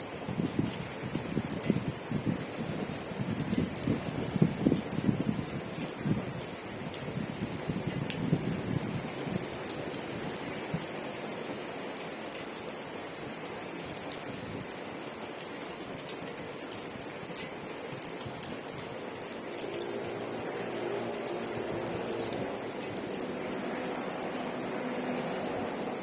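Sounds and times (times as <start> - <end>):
steady rain falling: 0.0 - 26.0
raindrops ticking: 1.1 - 26.0.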